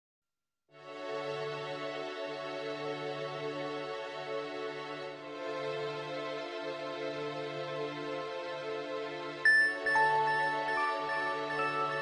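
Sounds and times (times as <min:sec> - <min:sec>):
background music with held tones: 0:00.8 - 0:12.0.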